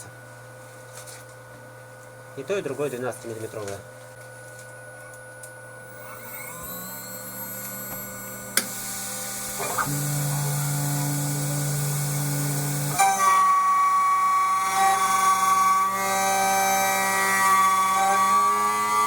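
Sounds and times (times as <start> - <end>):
low machine hum: 0.0 - 19.0
milling machine whine: 3.6 - 19.0.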